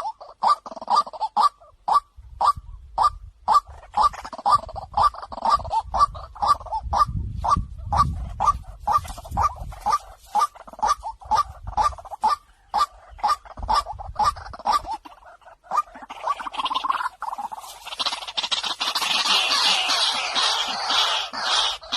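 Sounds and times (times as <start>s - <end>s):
waterhen harsh calls: 0.0s - 21.9s.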